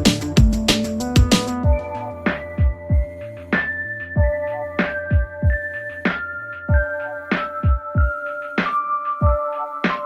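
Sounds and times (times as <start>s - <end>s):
steady kick-drum beat: 0.0s - 10.0s.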